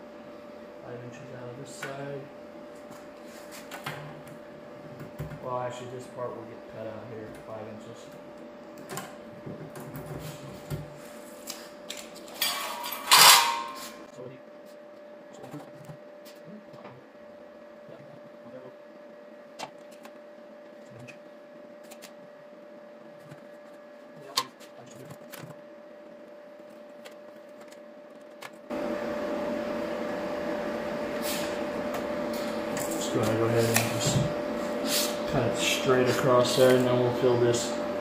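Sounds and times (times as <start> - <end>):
steady shop hum: 0.0 - 38.0.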